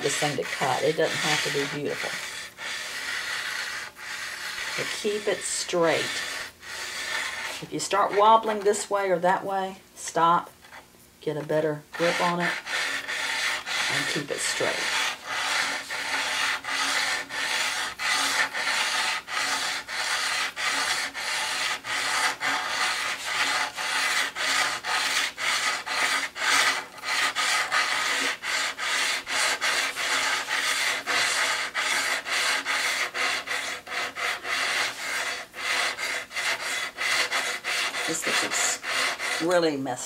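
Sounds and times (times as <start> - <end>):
hone rasping along steel blade: 0.0 - 8.8, 11.5 - 40.0.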